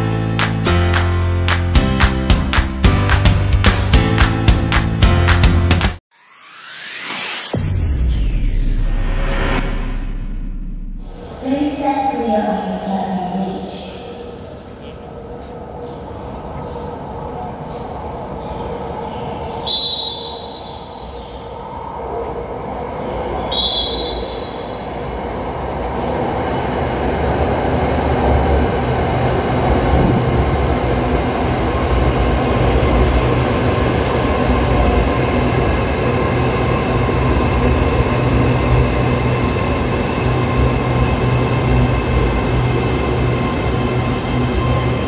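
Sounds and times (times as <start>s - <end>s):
electric train rumbling past: 6.6s - 45.0s.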